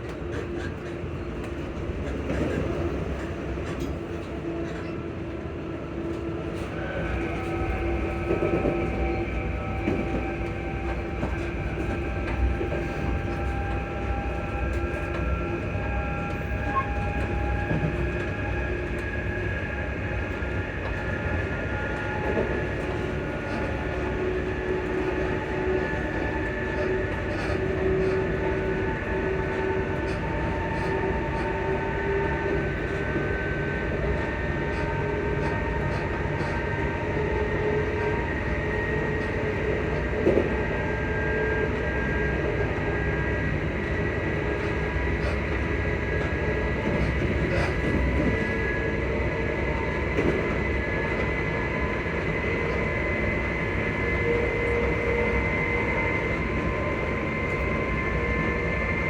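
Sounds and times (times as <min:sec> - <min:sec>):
train traction motors whining: 0:00.0 - 0:59.0
wheels rumbling on rail: 0:00.0 - 0:59.0.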